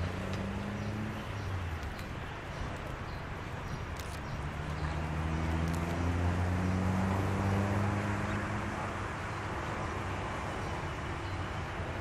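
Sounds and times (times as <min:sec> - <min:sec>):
locomotive diesel engine hum: 0:00.0 - 0:12.0.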